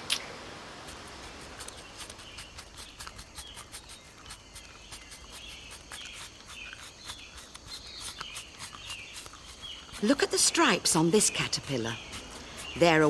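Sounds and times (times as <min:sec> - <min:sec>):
caterpillar chewing leaf clicks: 0:00.9 - 0:12.8
high bird chirps: 0:01.0 - 0:13.0.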